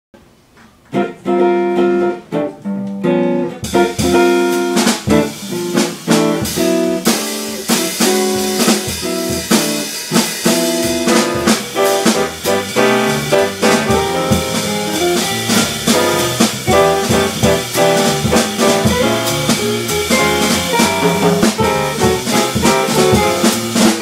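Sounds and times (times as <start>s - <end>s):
jazz quartet playing: 0.9s - 24.0s.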